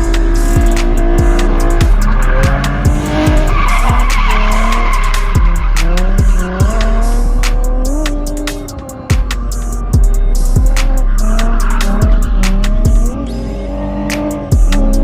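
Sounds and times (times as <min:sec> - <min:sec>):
tyres squealing and skidding: 0:00.0 - 0:14.4
car engine revving: 0:00.0 - 0:15.0
hip-hop beat with deep kick: 0:00.0 - 0:15.0.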